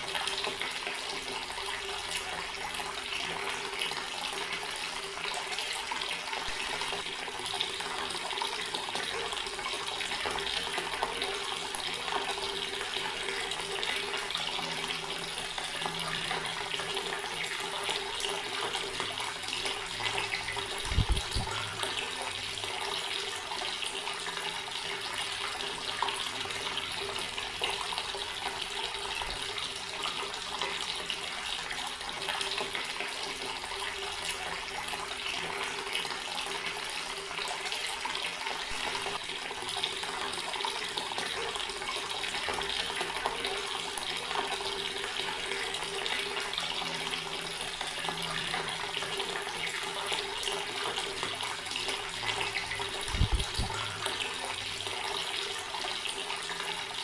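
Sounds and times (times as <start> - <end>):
water tap running: 0.0 - 57.0.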